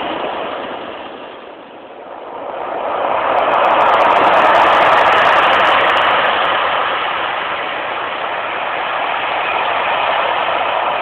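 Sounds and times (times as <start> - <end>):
ocean waves breaking on shore: 0.0 - 11.0.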